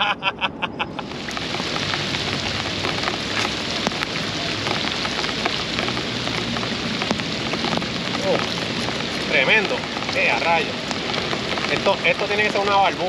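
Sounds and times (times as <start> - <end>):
rain pattering on water: 0.9 - 13.0.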